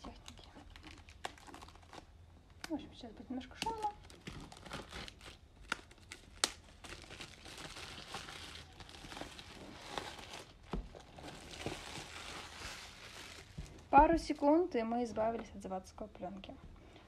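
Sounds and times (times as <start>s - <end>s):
plastic film crinkling: 0.0s - 2.8s, 3.4s - 14.8s.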